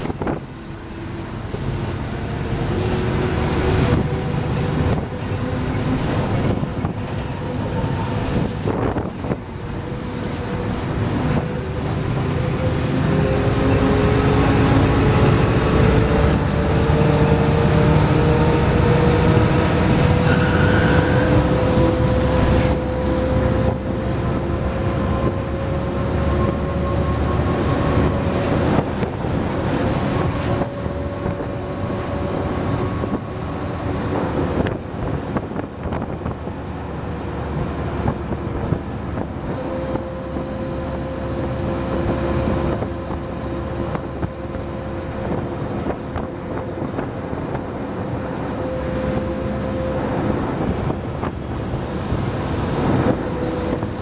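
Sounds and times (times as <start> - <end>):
engine whine rising in pitch: 0.0 - 36.0, 37.2 - 54.0
bus diesel engine rumbling: 0.0 - 54.0.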